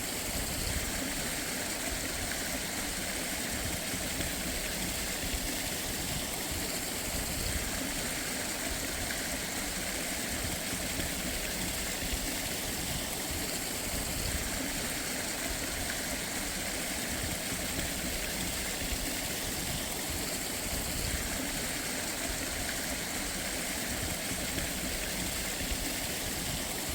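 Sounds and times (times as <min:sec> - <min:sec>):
stream water flowing: 0:00.0 - 0:26.9.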